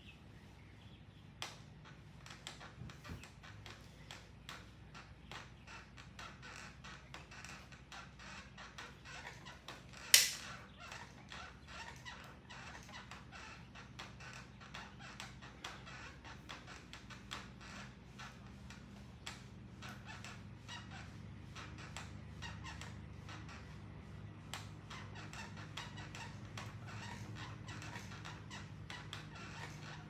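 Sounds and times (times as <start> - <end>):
exercise bike hum: 0.0 - 30.0.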